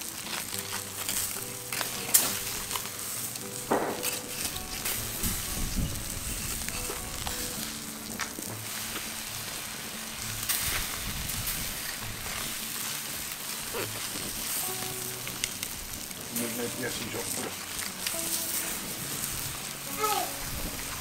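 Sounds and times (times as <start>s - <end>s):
pig skin sizzling and crackling: 0.0s - 21.0s.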